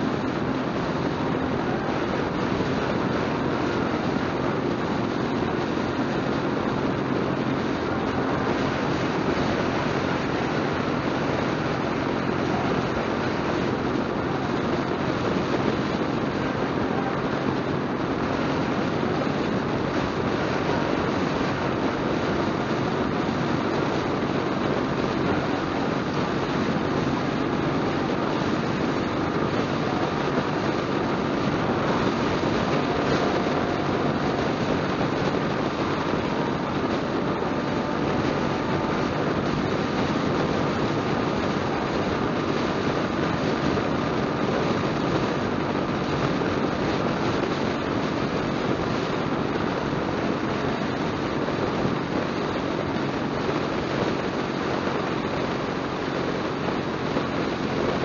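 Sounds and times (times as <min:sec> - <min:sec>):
motorcycle engine drone: 0:00.0 - 0:58.0
wind and road noise: 0:00.0 - 0:58.0.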